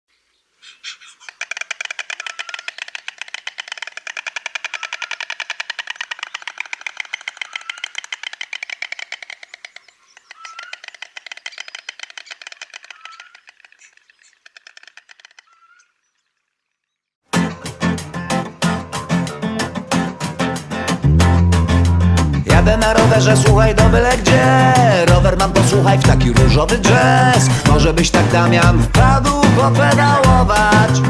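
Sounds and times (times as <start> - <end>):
stork bill-clattering: 1.1 - 15.8, 17.4 - 31.0.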